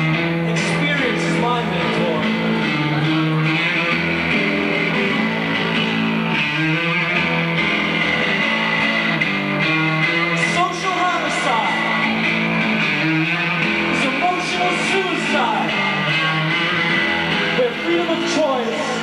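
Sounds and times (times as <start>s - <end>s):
amplified electric guitar: 0.0s - 19.0s.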